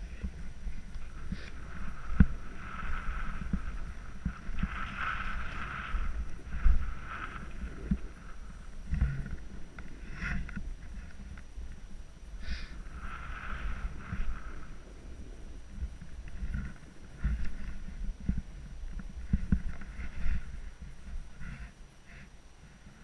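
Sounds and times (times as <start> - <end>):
snowboard scraping on snow: 0.1 - 11.8, 12.4 - 21.7.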